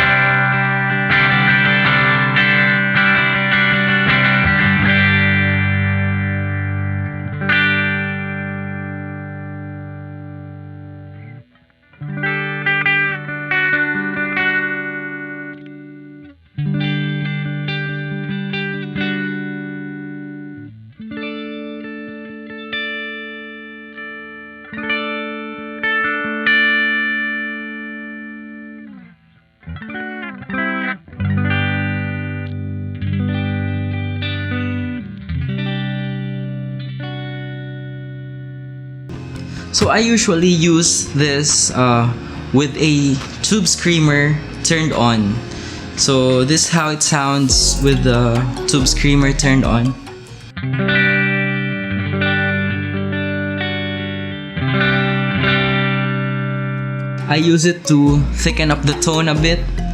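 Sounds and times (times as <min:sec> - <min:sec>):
clean electric guitar chords: 0:00.0 - 0:59.9.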